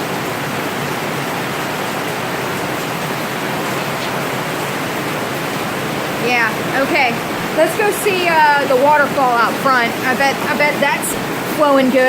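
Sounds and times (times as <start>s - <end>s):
heavy rain falling: 0.0s - 12.0s
water pouring from tarps: 0.0s - 12.0s.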